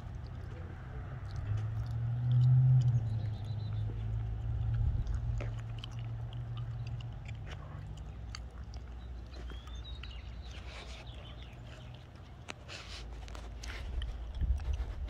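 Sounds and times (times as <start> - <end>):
low hum: 0.0 - 12.1.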